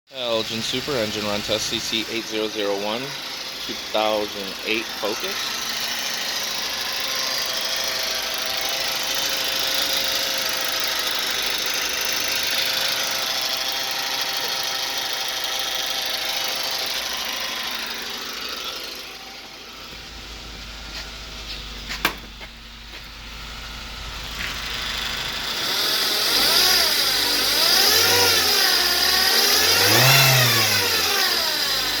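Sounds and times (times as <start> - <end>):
car engine idling and revving: 0.2 - 32.0.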